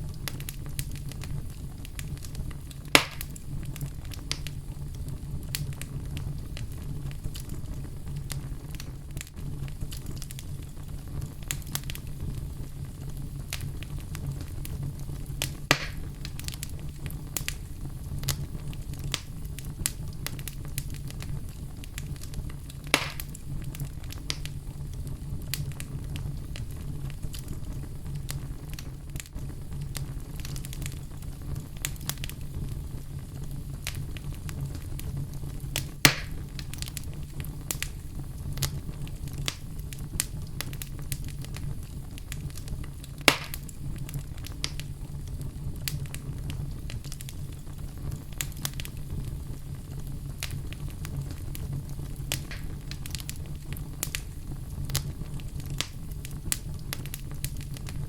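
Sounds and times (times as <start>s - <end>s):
loud fire pops: 0.0s - 58.0s
wood fire crackling: 0.0s - 58.0s.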